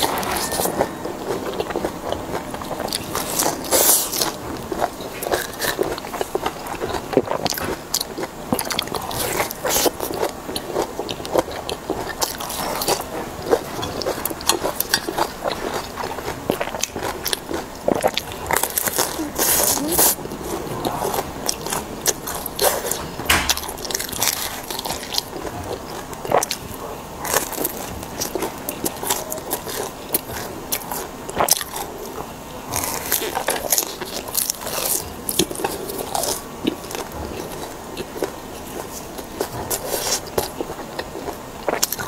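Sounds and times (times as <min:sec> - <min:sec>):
person chewing crunchy food: 0:00.0 - 0:42.0.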